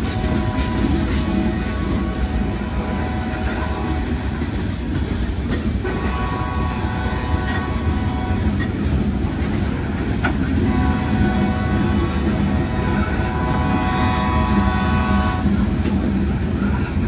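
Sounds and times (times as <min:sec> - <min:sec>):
train cars clanking: 0:00.0 - 0:17.0
train wheels rumbling on rail: 0:00.0 - 0:17.0.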